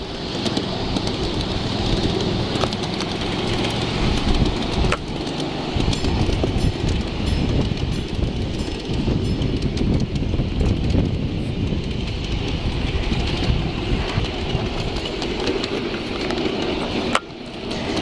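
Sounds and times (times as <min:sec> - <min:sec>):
rail clicks: 0:00.0 - 0:18.0
train wheels rumbling on track: 0:00.0 - 0:18.0.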